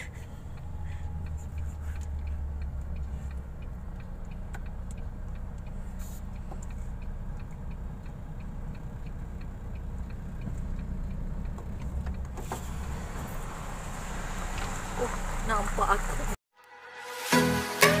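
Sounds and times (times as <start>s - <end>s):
truck engine humming: 0.0s - 16.4s.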